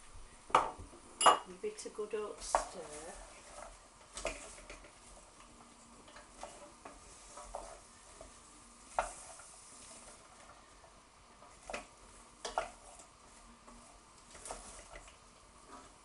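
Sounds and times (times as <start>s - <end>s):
vegetables sizzling in oil: 1.5s - 16.0s.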